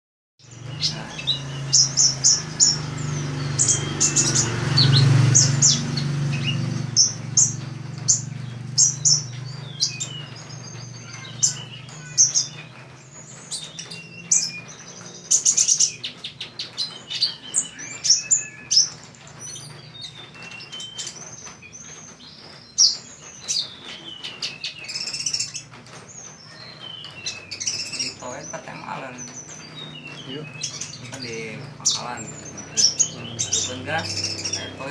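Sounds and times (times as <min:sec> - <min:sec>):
bird singing high chirps and trills: 0:00.4 - 0:34.9.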